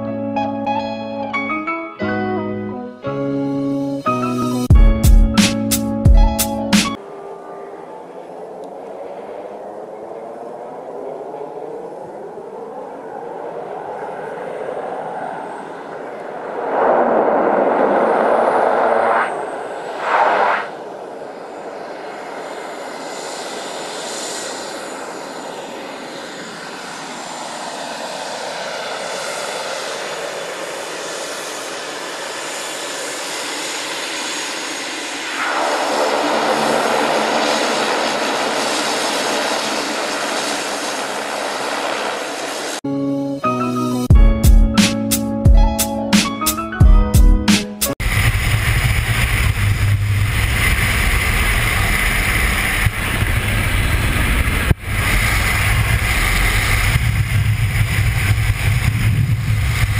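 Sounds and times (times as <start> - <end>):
turboprop airplane landing: 0.0 - 59.9
loud rushing surges: 4.9 - 42.8, 47.9 - 59.9.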